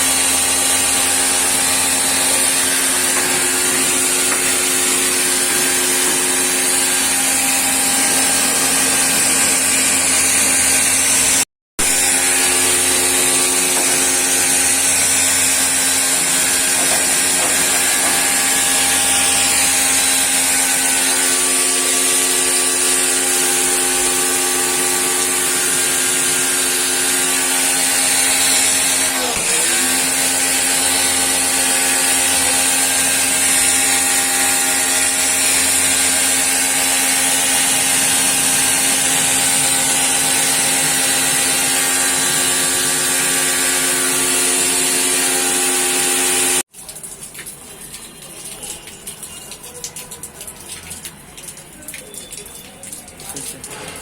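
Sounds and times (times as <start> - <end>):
pressure washer motor whine: 0.0 - 46.7.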